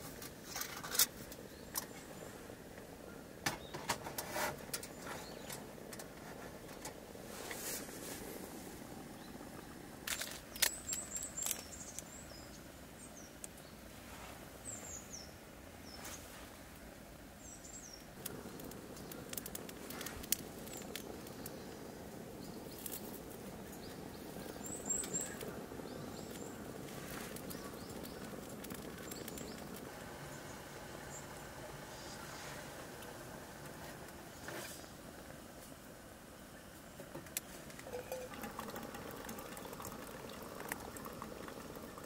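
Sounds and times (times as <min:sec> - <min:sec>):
low background rush: 0:00.0 - 0:42.0
small birds chirping: 0:01.2 - 0:13.9, 0:14.6 - 0:16.4, 0:17.4 - 0:35.0, 0:36.5 - 0:42.0.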